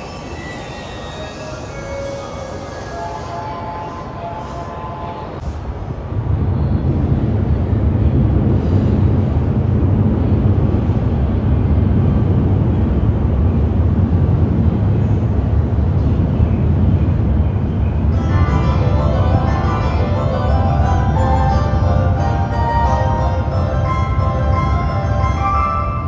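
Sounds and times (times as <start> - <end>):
train rumbling into platform: 0.0 - 26.0.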